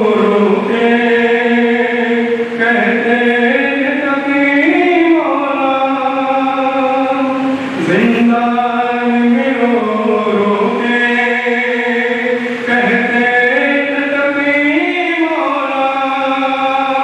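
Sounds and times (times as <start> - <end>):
unaccompanied mourning chant: 0.0 - 17.0.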